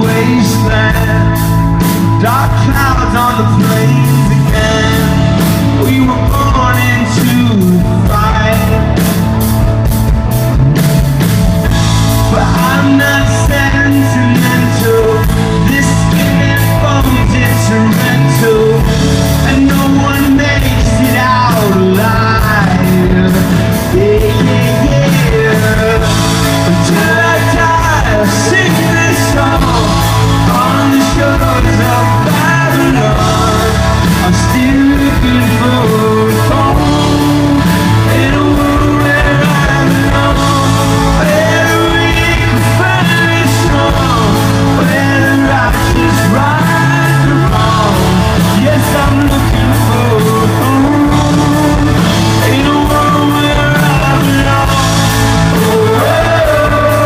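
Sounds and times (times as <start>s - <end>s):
person singing: 0.0s - 10.3s, 11.7s - 57.0s
live rock band playing: 0.0s - 57.0s.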